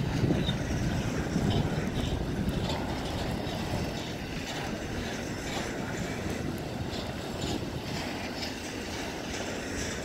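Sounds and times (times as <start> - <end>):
freight train wheels rumbling: 0.0 - 10.0
wheels clicking over rail joints: 0.0 - 10.0.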